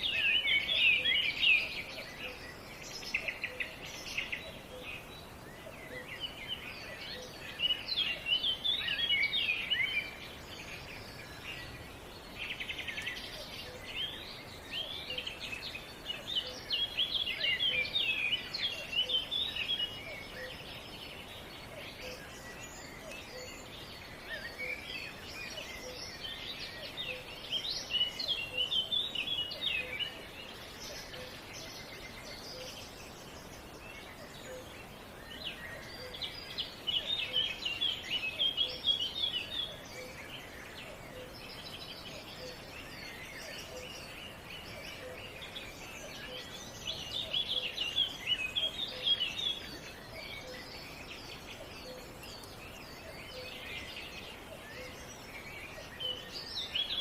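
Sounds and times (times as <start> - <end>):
songbirds chirping: 0.0 - 57.0
steady outdoor hiss: 0.0 - 57.0.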